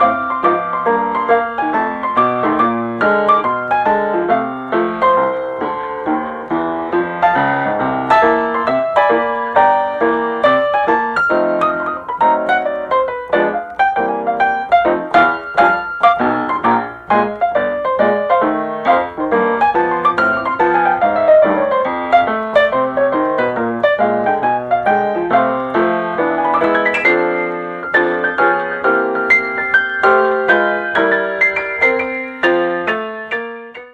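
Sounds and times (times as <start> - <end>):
piano music with flowing runs: 0.0 - 33.9.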